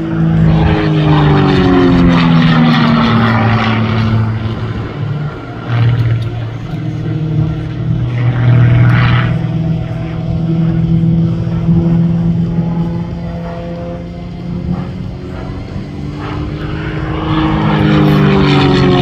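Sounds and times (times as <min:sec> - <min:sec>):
propeller plane engine overhead: 0:00.0 - 0:19.0.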